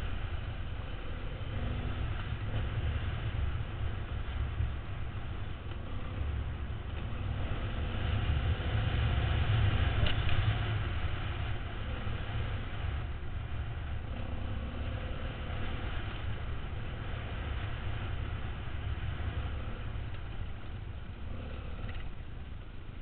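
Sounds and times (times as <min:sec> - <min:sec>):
wind rumble: 0:00.0 - 0:23.0.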